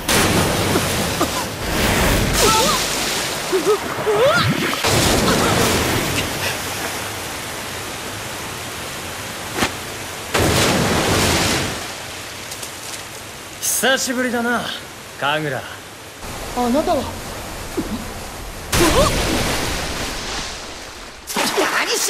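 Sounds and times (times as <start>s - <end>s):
low steady hiss: 0.0s - 22.0s
rushing splashing water: 0.0s - 22.0s.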